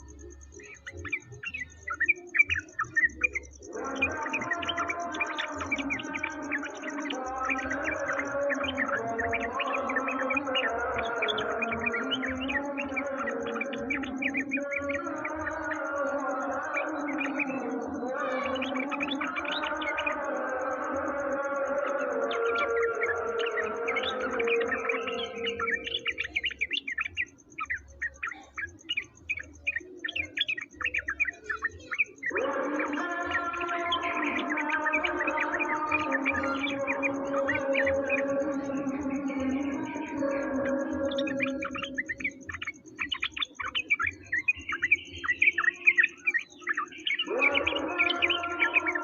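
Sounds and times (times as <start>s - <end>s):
songbird chirping: 0.0s - 49.0s.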